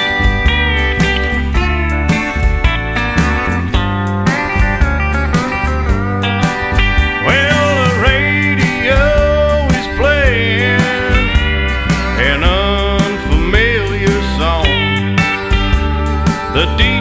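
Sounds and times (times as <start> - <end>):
country music with drums and bass: 0.0 - 17.0
sliding guitar line: 0.0 - 17.0.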